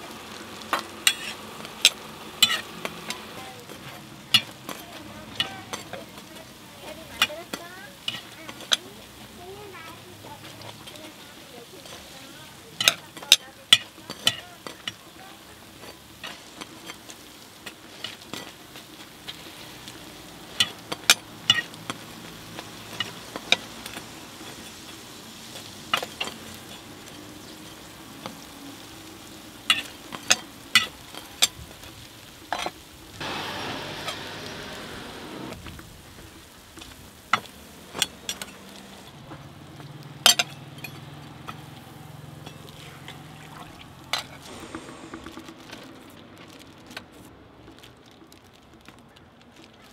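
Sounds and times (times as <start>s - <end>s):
pancakes sizzling in oil: 0.0s - 49.9s.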